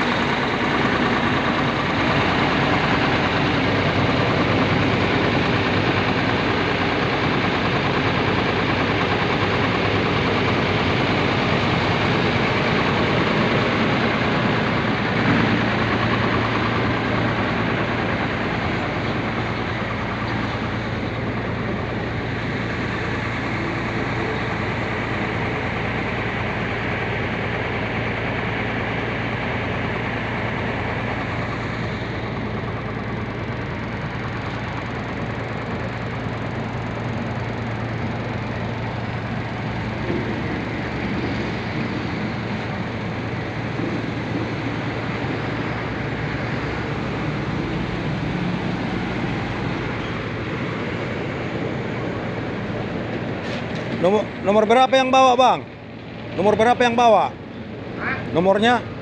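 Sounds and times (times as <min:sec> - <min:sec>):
bus diesel engine idling: 0:00.0 - 0:59.0
steady low hum: 0:00.0 - 0:59.0.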